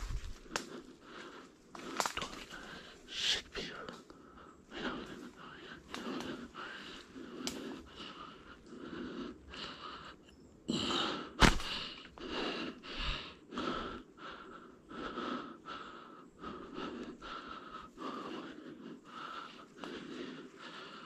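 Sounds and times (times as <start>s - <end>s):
person breathing hard and fast: 0.0s - 21.0s.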